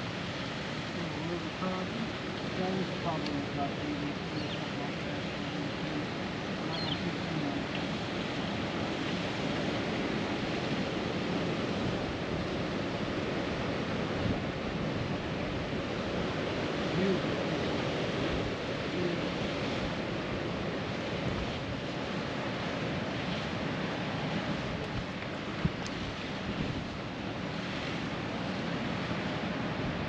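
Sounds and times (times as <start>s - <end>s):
water rushing: 0.0s - 30.0s
wind on microphone: 0.0s - 30.0s.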